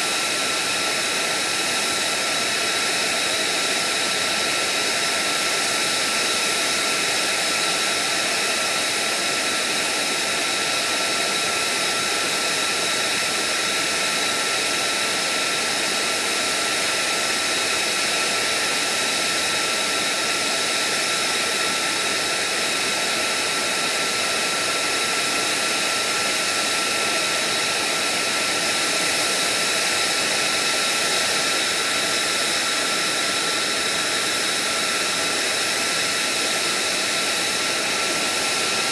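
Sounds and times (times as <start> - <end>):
jet engine idling: 0.0 - 38.9.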